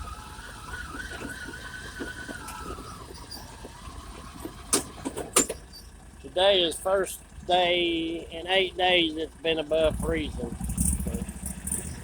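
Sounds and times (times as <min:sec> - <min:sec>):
brakes squealing: 0:00.0 - 0:12.0
vehicle rumble: 0:00.0 - 0:12.0.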